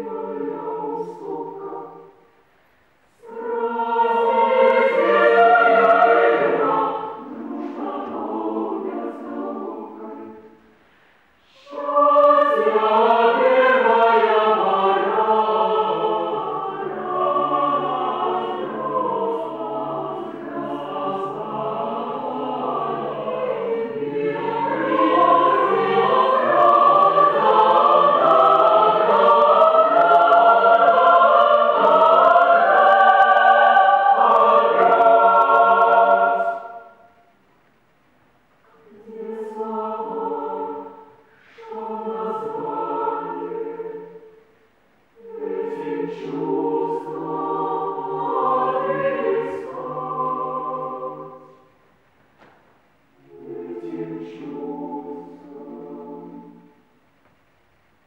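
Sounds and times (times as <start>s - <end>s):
women's choir singing a cappella: 0.0s - 2.4s, 3.1s - 10.8s, 11.4s - 37.3s, 38.7s - 44.6s, 45.2s - 52.5s, 53.2s - 56.9s.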